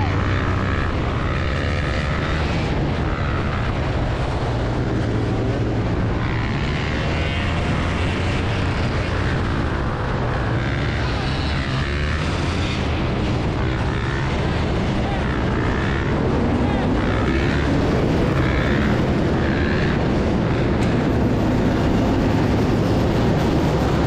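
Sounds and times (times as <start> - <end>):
motorbike engines revving: 0.0 - 24.0.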